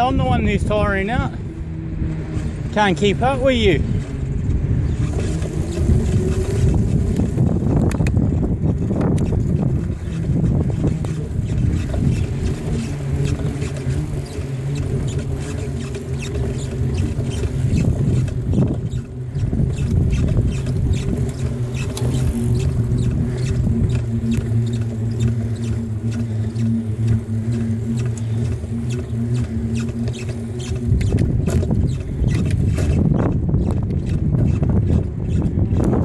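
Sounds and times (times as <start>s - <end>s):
bicycle ride rumble: 0.0s - 36.0s
wind buffeting microphone: 0.0s - 36.0s.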